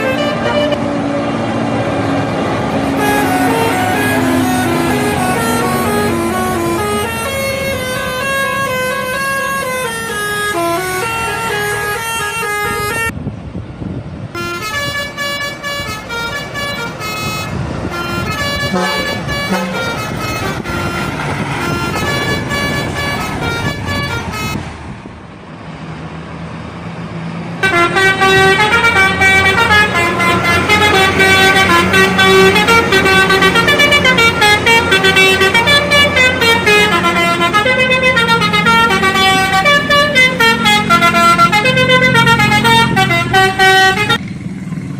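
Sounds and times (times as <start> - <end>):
musical air horn tunes: 0.0 - 1.0, 2.8 - 13.1, 14.4 - 24.6, 27.6 - 44.2.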